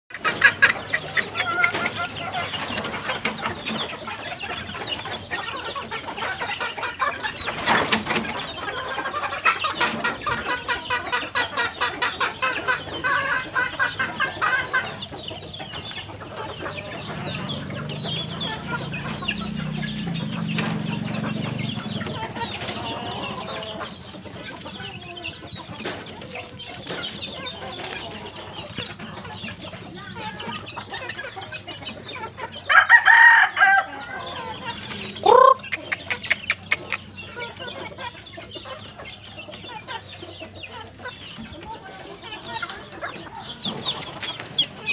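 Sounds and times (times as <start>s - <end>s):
chickens clucking and calling: 0.1s - 44.9s.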